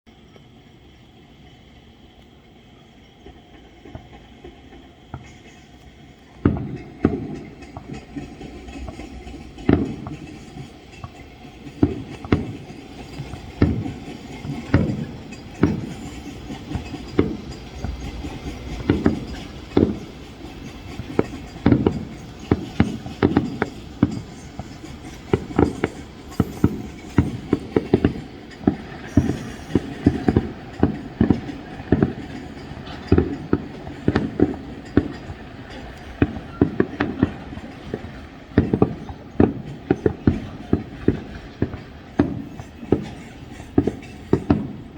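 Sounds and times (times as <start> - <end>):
fireworks bursting: 3.2 - 44.9.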